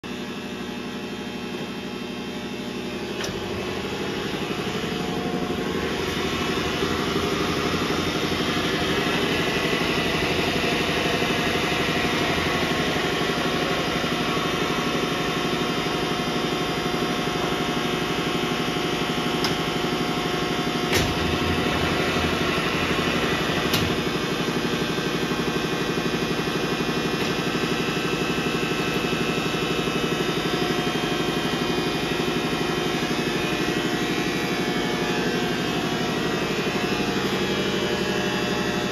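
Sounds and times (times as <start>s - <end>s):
lathe running hum: 0.0s - 38.9s.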